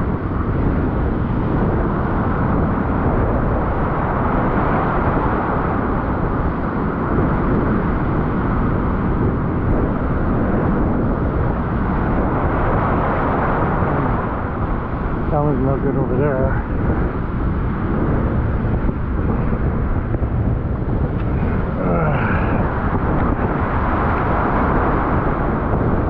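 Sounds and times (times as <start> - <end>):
surf breaking and rushing: 0.0 - 26.0
wind buffeting microphone: 0.0 - 26.0.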